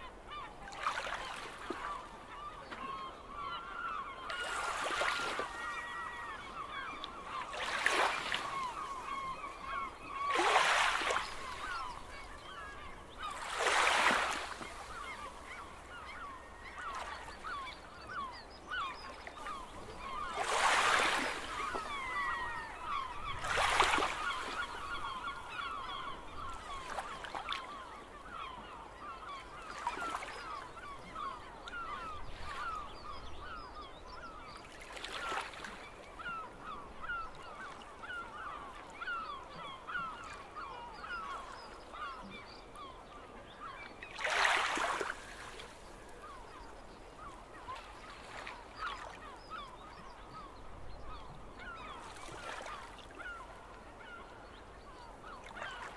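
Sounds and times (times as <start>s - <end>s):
gulls calling: 0.3s - 35.6s, 36.2s - 55.9s.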